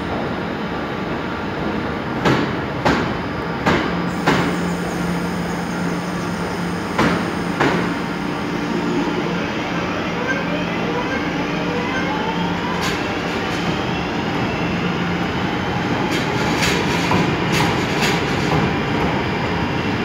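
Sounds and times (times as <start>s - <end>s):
steady train hum: 0.0s - 20.0s.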